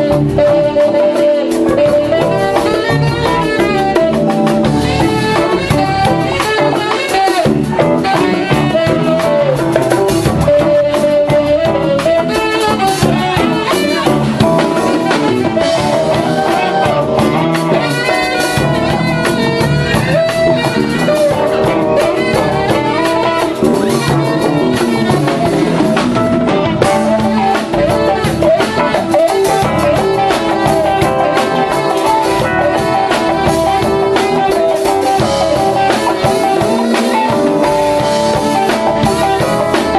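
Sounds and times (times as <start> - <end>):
horn melody: 0.0 - 39.9
live soul band groove: 0.0 - 39.9.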